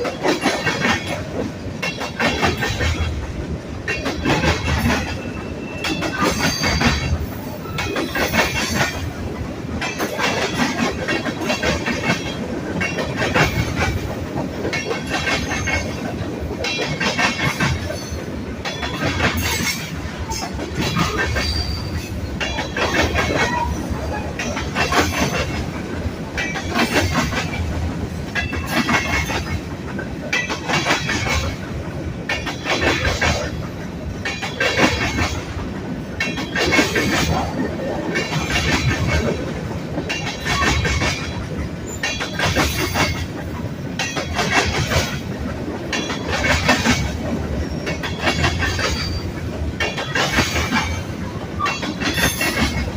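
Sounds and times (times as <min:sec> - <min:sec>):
train wheels clattering over joints: 0:00.0 - 0:52.9.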